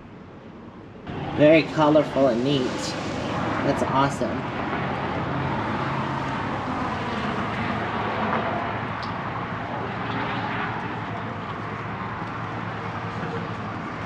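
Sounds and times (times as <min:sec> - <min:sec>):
outdoor rushing noise: 0:00.6 - 0:14.0.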